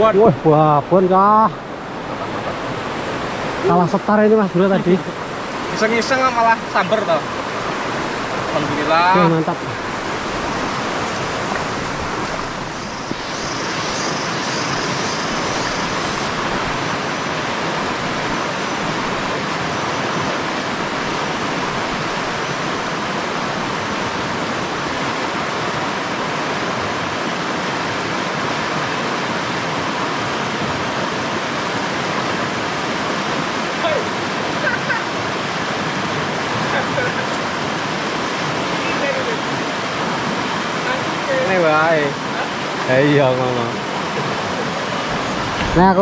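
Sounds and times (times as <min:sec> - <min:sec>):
fast-flowing river water: 0:00.0 - 0:46.0.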